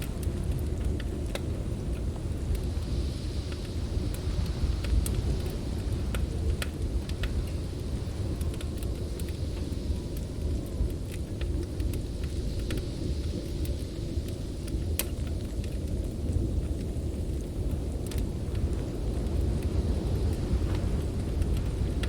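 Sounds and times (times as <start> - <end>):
blizzard wind roaring: 0.0 - 22.0
wood fire crackling: 0.0 - 22.0.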